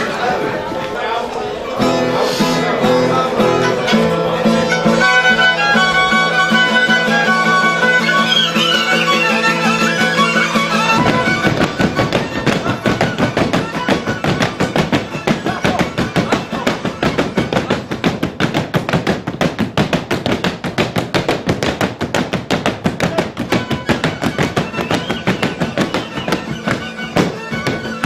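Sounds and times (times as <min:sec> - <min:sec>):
folk dance music: 0:00.0 - 0:28.0
fiddle playing: 0:00.2 - 0:18.9, 0:22.3 - 0:28.0
fast rhythmic beats: 0:02.8 - 0:28.0.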